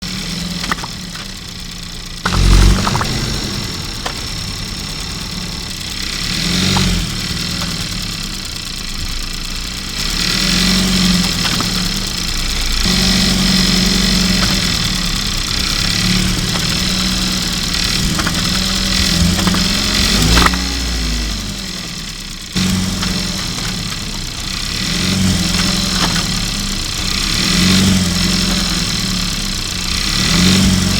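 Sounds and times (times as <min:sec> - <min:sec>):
car engine hum: 0:00.0 - 0:30.9
gearbox noise: 0:00.1 - 0:21.0, 0:22.5 - 0:30.9.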